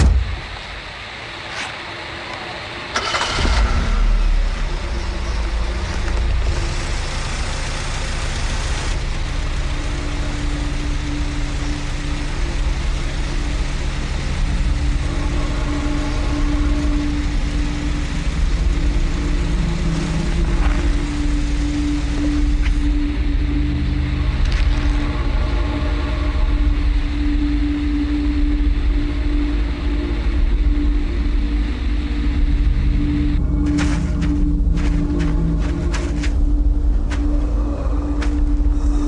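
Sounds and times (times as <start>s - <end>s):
engine starting and running: 2.8s - 28.5s, 31.3s - 39.0s.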